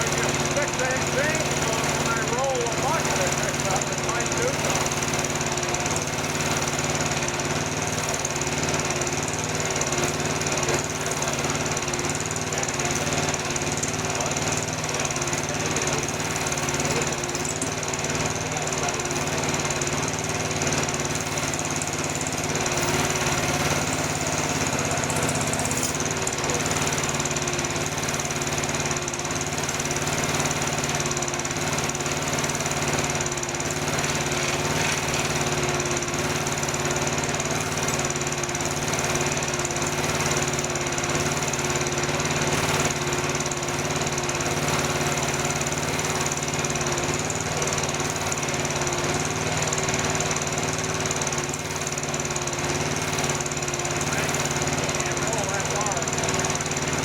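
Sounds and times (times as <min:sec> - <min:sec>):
mini excavator engine running: 0:00.0 - 0:57.0.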